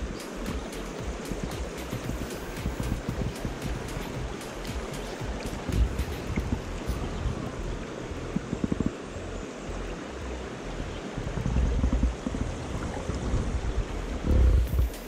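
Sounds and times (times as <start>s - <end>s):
stream water rushing: 0.0s - 15.0s
wind rumbling on microphone: 0.0s - 15.0s.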